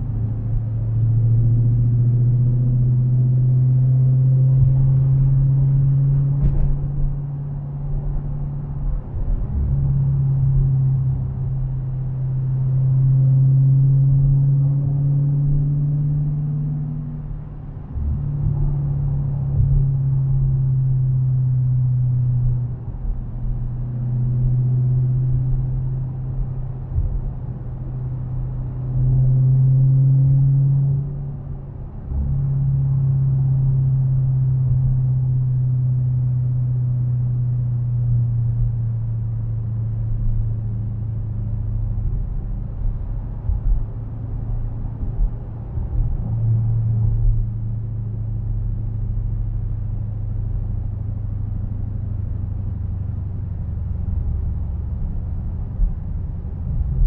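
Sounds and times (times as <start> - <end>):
car engine droning: 0.0 - 57.0
low road rumble: 0.0 - 57.0.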